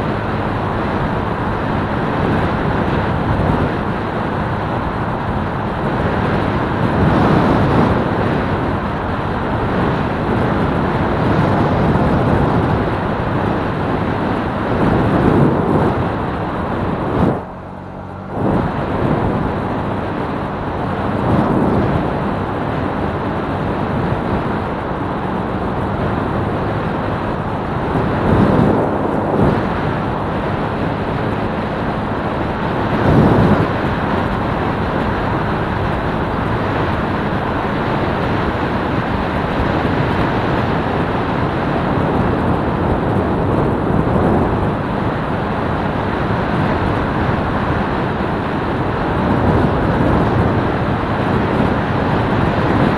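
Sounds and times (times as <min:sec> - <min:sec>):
motorcycle engine running: 0:00.0 - 0:52.9
wind rush on microphone: 0:00.0 - 0:52.9.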